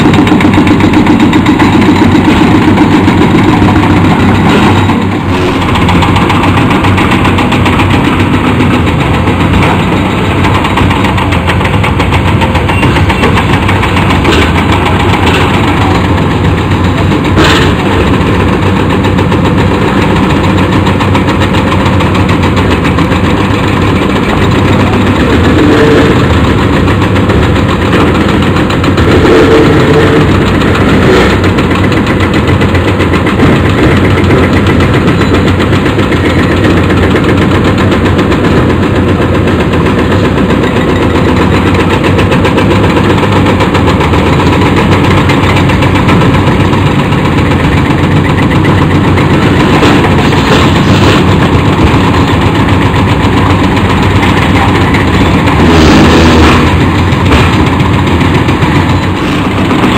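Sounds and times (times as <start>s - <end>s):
excavator diesel engines under load: 0.0s - 59.9s.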